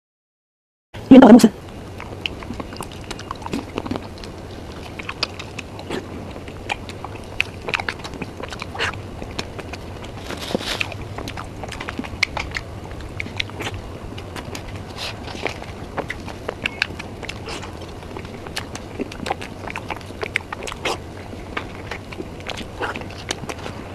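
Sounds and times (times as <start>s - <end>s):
wet chewing and mouth smacks: 1.6s - 23.9s.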